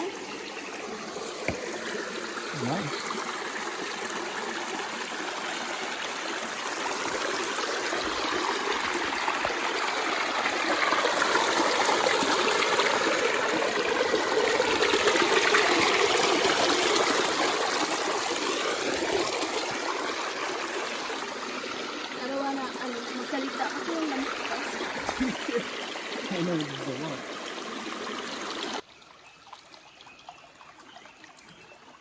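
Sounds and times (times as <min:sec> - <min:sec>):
stream trickling over rocks: 0:00.0 - 0:32.0.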